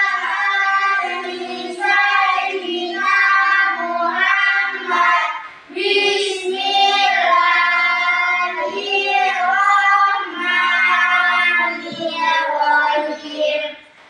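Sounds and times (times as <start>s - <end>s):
children chanting in unison: 0.0s - 13.8s.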